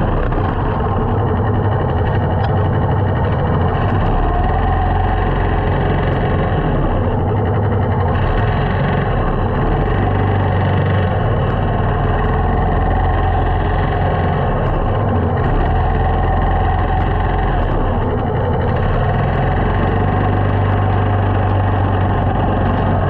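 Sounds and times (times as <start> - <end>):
motorcycle engine running: 0.0 - 23.0
surrounding traffic noise: 0.0 - 23.0.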